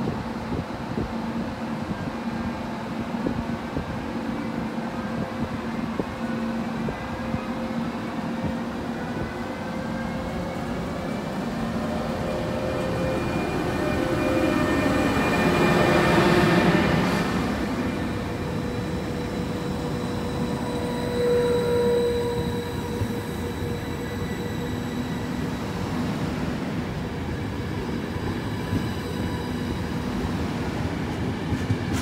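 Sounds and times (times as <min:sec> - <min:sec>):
electric locomotive whining: 0:03.9 - 0:32.0
train coaches rolling past: 0:04.0 - 0:32.0.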